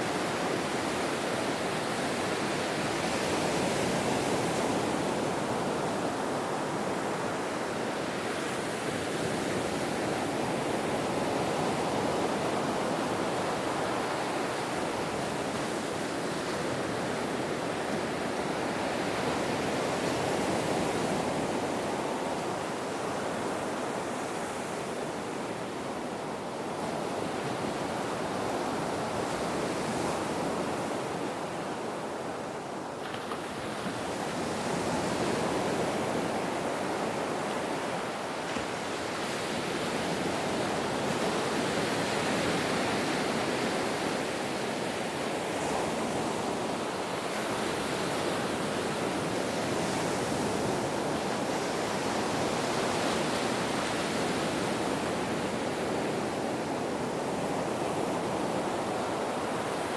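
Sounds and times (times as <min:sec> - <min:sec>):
ocean waves surf: 0:00.0 - 0:59.9.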